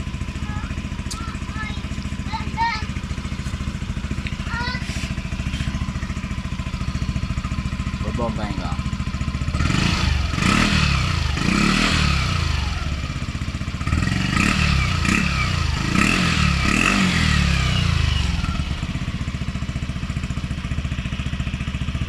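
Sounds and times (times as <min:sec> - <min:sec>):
scooter engine revving and idling: 0:00.0 - 0:22.0.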